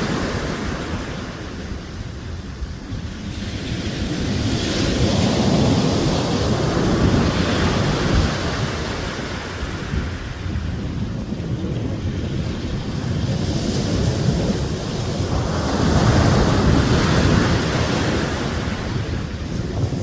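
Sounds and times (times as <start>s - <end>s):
ocean wave breaking: 0.0s - 10.6s, 11.8s - 20.0s
wind buffeting microphone: 0.0s - 20.0s.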